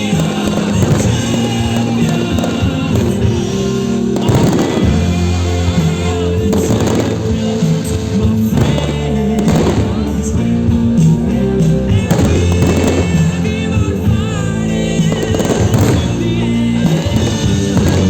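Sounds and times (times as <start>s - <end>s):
fireworks bursting: 0.0s - 18.0s
loud music: 0.0s - 18.0s.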